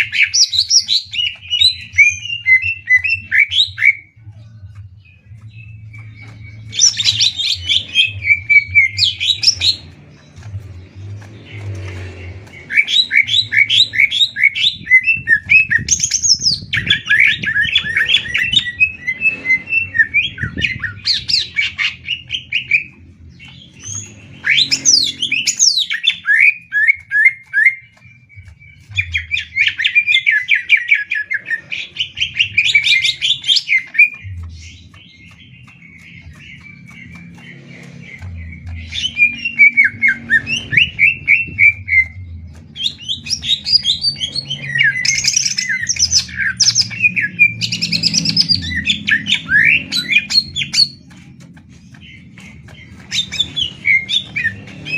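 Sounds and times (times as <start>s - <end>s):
birds singing sharp trills: 0.0s - 54.9s.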